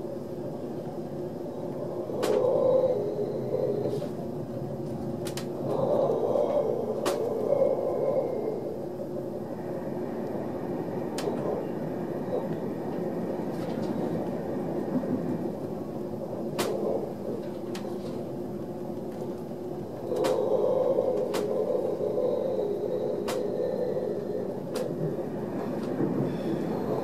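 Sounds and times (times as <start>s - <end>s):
train coach interior rumble: 0.0s - 27.0s.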